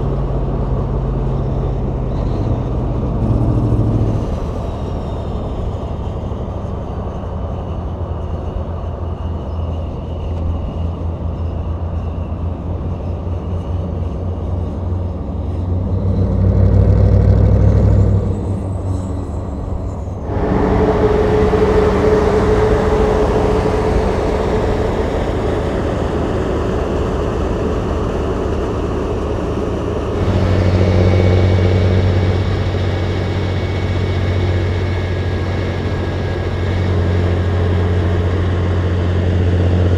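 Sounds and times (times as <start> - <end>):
diesel truck engines running: 0.0 - 39.9
tyre and road noise: 0.0 - 39.9.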